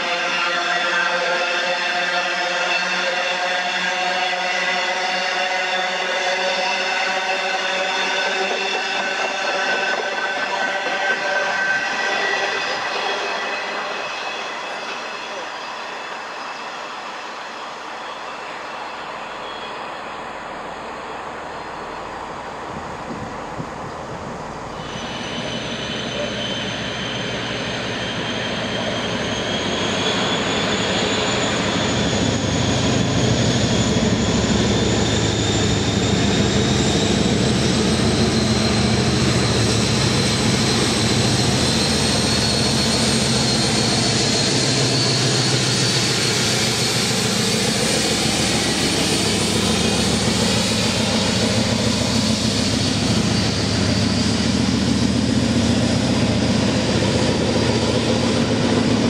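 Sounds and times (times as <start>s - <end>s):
diesel locomotive engine running: 6.0s - 59.0s
high whine rising in pitch: 10.1s - 59.0s.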